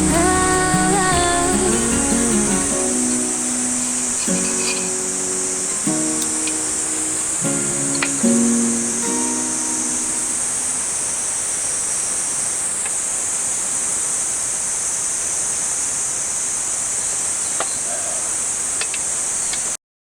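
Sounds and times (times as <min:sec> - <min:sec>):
insects trilling: 0:00.0 - 0:19.8.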